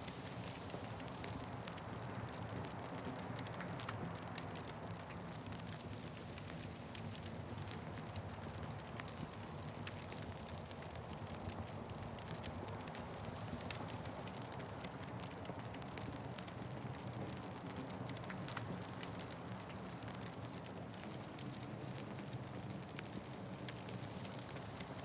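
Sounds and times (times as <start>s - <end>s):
wood fire crackling: 0.1s - 25.0s.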